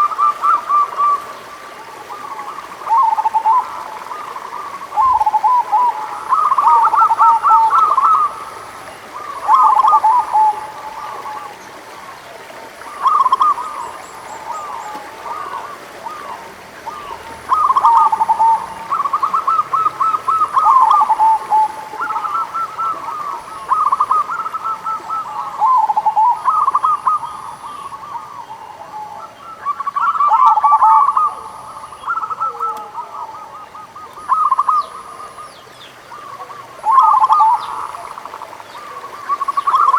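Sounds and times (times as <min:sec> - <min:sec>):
doves stuttering coos: 0:00.0 - 0:35.5, 0:36.1 - 0:39.9.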